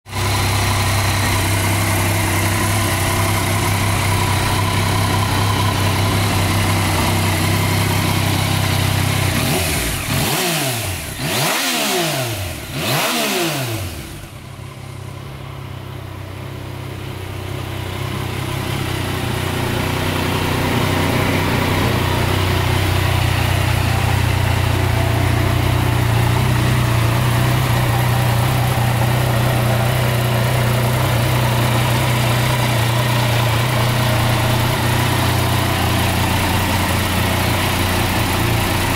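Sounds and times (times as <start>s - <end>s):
motorcycle engine idling: 0.1s - 38.9s.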